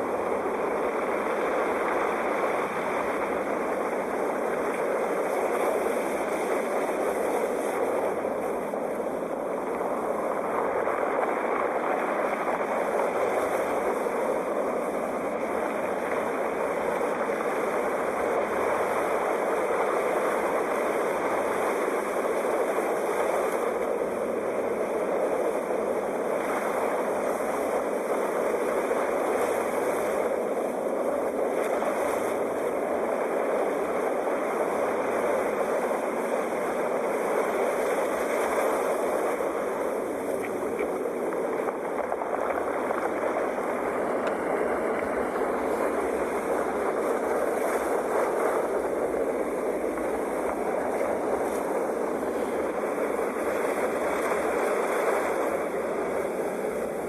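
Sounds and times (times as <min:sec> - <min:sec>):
ocean waves: 0:00.0 - 0:57.0.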